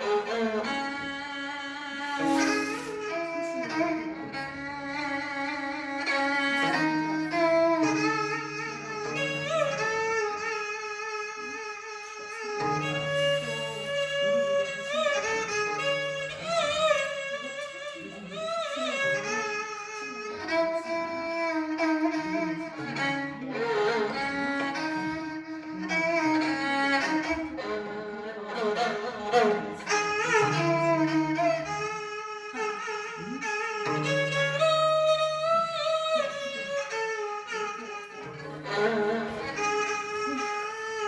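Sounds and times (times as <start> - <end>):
bowed string instrument melody: 0.0 - 41.0.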